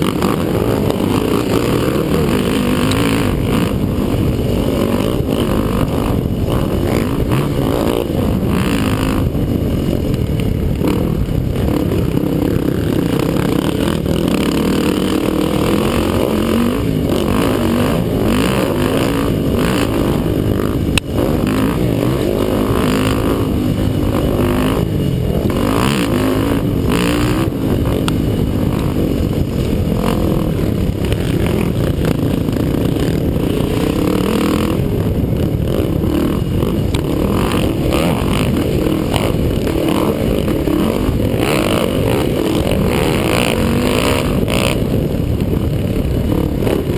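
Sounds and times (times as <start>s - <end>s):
quad engines racing: 0.0s - 46.9s.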